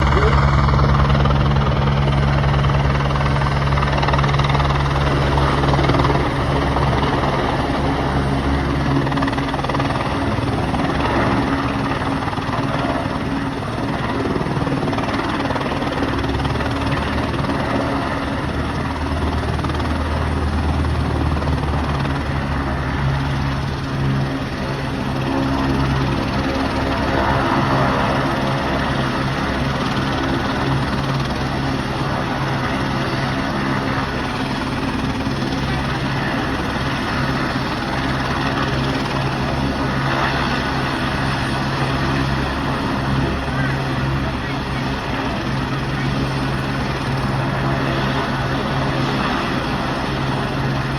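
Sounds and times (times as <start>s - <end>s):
helicopter running: 0.0s - 50.9s.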